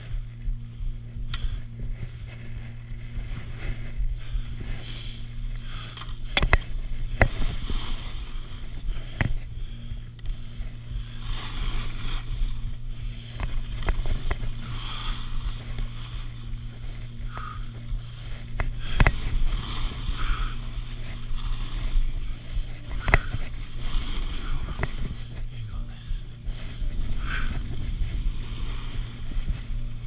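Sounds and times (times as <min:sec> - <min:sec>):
skis scraping over packed snow: 0:00.0 - 0:30.0
steady low hum: 0:00.0 - 0:30.0.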